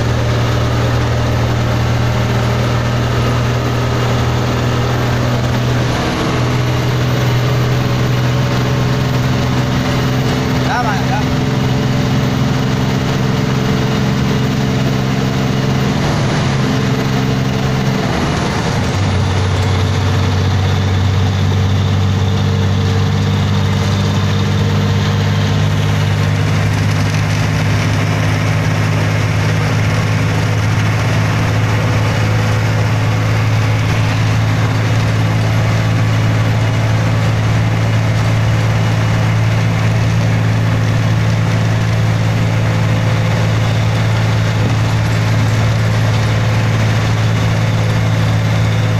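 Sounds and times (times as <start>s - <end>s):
heavy vehicle engine running: 0.0s - 48.9s.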